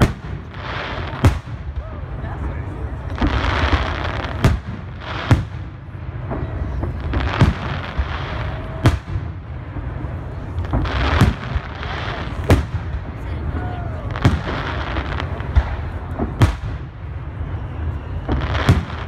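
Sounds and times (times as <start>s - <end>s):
fireworks bursting with sharp bangs: 0.0s - 19.0s.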